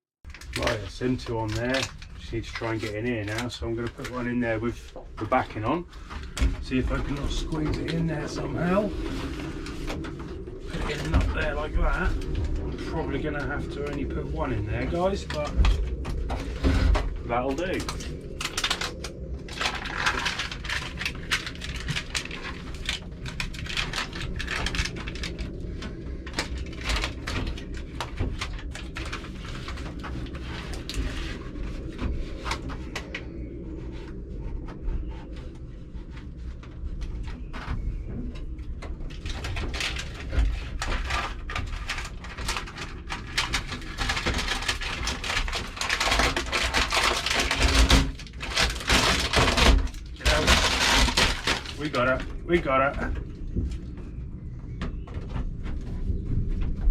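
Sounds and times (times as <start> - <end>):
mat crinkling on metal panels: 0.3 - 56.9
steady low rumble: 0.3 - 56.9.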